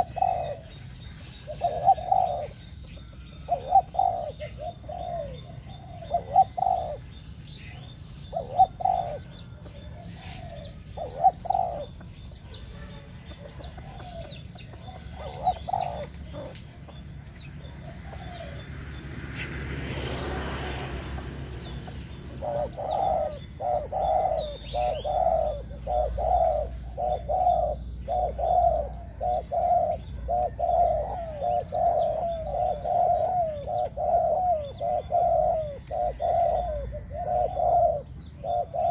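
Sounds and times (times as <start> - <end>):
dove cooing: 0.0 - 19.0, 19.8 - 38.9
small birds chirping: 0.0 - 38.9.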